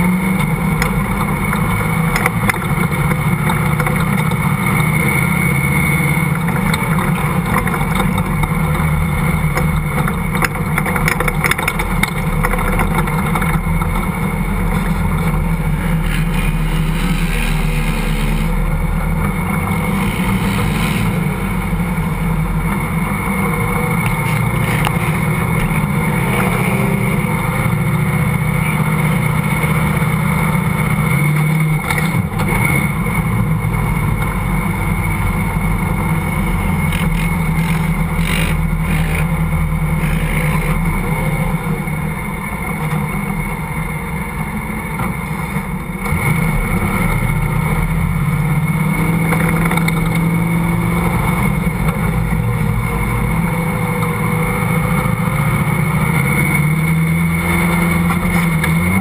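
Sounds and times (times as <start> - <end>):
off-road vehicle engine running hard: 0.0 - 59.0.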